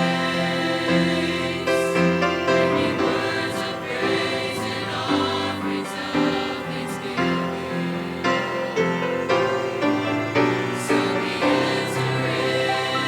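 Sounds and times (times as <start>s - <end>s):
choir singing gospel song: 0.0s - 13.0s
musical accompaniment: 0.0s - 13.0s.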